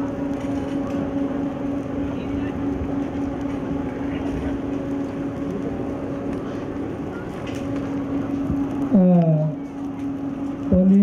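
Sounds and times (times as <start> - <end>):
low mechanical hum: 0.0 - 11.0
noisy background: 0.0 - 11.0.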